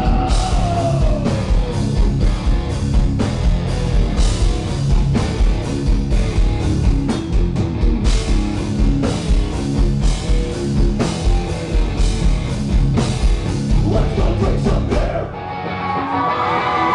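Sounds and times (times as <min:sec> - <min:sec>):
drum kit pounding: 0:00.0 - 0:15.3
bass guitar: 0:00.0 - 0:16.9
distorted electric guitar: 0:00.0 - 0:16.9.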